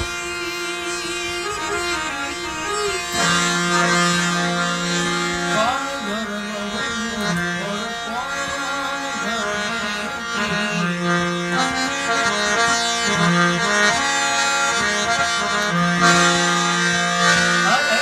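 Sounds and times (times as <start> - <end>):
harmonium playing: 0.0 - 18.0.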